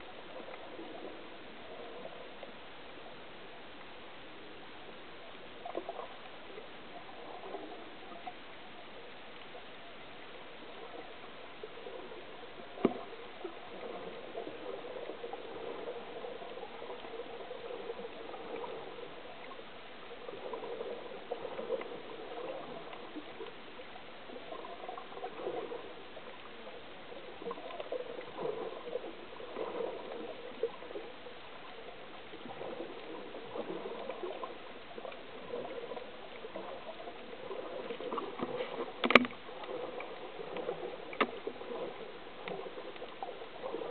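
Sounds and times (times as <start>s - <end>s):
underwater swishing and gurgling: 0.0s - 43.9s.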